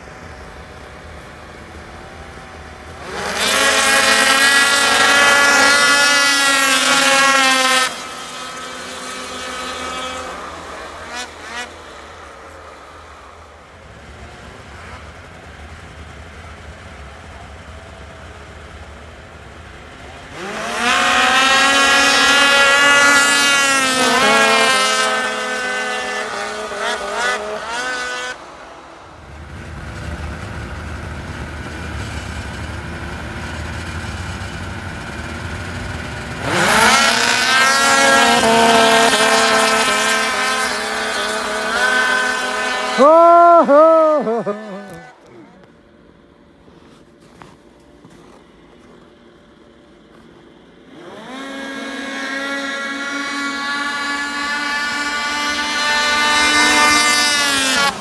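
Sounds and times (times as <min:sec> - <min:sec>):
snowmobile engines at full throttle: 0:00.0 - 0:58.0
snowmobiles idling: 0:00.0 - 0:58.0.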